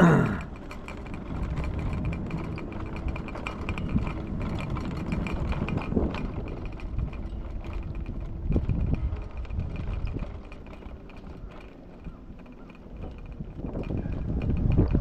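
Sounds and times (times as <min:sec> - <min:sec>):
small clicks and rattles: 0:00.0 - 0:15.0
wheels rumbling over pavement: 0:00.0 - 0:15.0.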